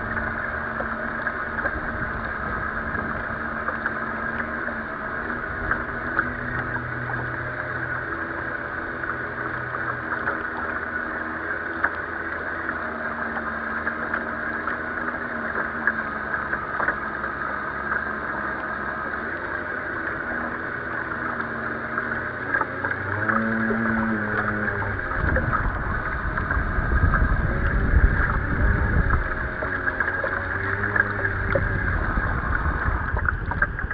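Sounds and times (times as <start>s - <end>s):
low hum: 0.0s - 33.9s
water slapping along hull: 0.0s - 33.9s.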